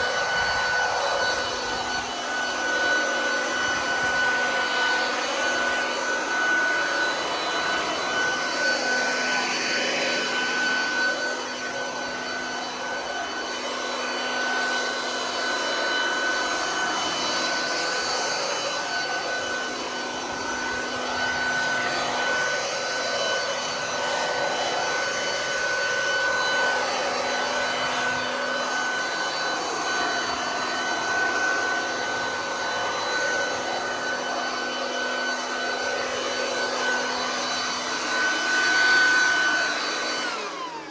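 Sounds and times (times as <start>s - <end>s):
electric leaf vacuum running: 0.0s - 40.9s.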